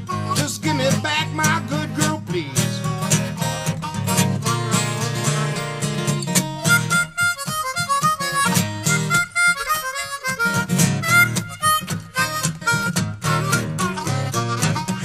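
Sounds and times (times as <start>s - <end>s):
acoustic guitar strumming: 0.0s - 15.0s
blues harmonica solo: 0.0s - 15.0s.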